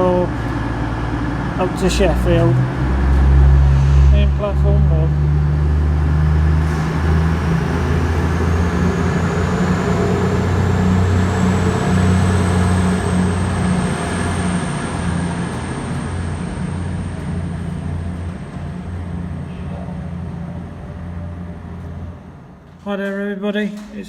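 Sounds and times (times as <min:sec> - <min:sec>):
high whine rising in pitch: 0:00.0 - 0:22.6
diesel train engine drone: 0:00.0 - 0:23.9.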